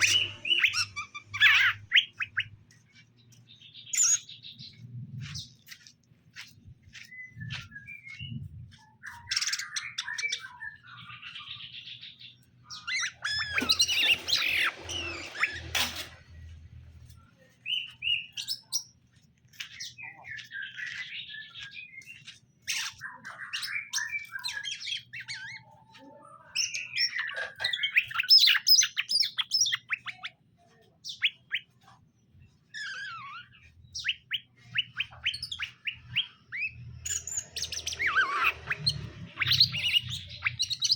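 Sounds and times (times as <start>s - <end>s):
bird chirping and trilling: 0.0s - 16.5s, 17.6s - 19.0s, 19.7s - 30.4s, 32.7s - 40.9s.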